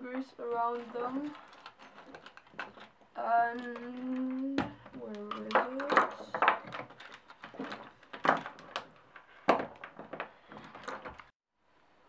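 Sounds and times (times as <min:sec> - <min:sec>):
tools clicking and knocking: 0:00.9 - 0:11.3.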